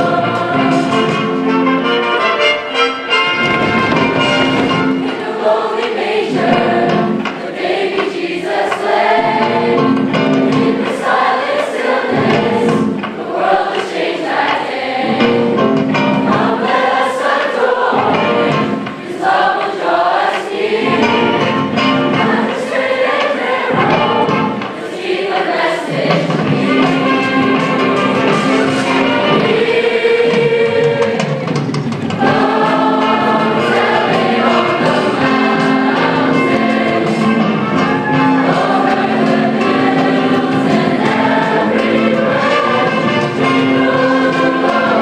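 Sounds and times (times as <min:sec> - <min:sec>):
choir singing gospel song: 0:00.0 - 0:45.0.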